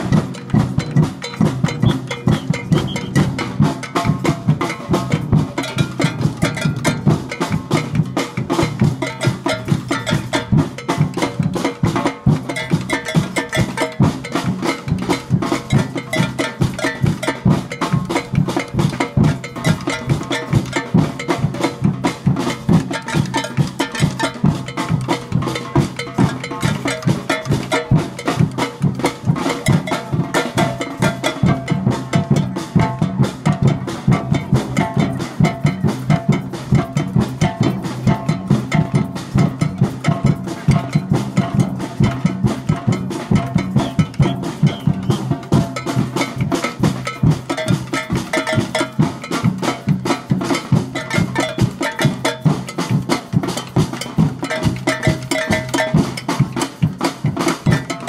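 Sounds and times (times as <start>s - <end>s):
bell-like clanks: 0.0s - 58.0s
percussion band drumming: 0.0s - 58.0s.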